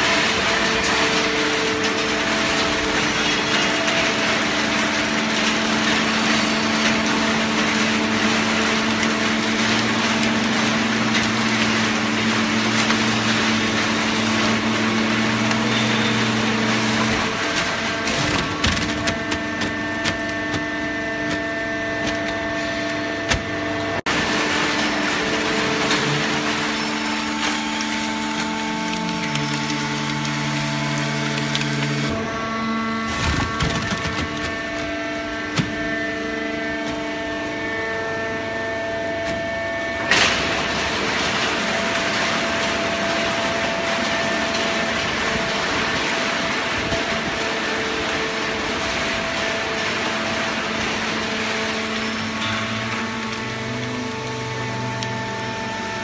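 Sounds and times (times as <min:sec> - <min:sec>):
hydraulic baler machine hum: 0:00.0 - 0:56.0.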